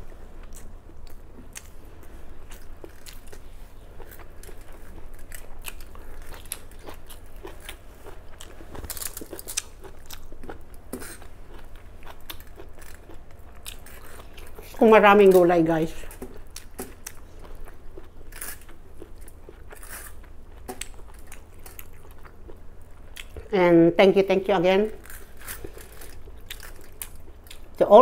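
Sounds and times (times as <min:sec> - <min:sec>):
crunchy vegetable chewing: 0:00.4 - 0:23.6, 0:25.0 - 0:27.8.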